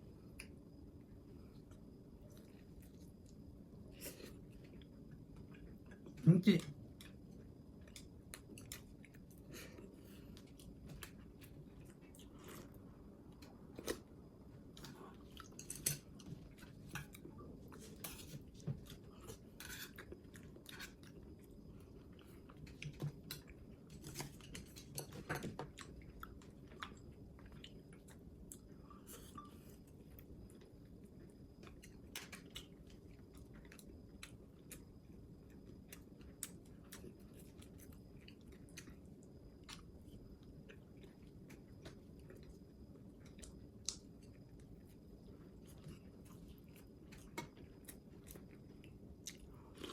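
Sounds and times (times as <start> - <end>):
low steady hum: 0.0 - 49.9
person chewing food: 6.9 - 24.9, 25.6 - 49.9.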